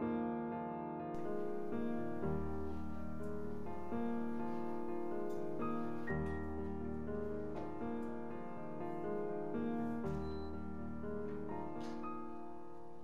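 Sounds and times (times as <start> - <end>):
piano background music: 0.0 - 13.0.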